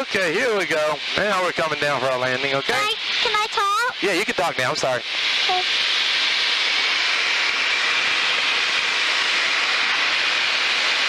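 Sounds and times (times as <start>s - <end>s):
aircraft cabin noise hiss: 0.0s - 11.0s.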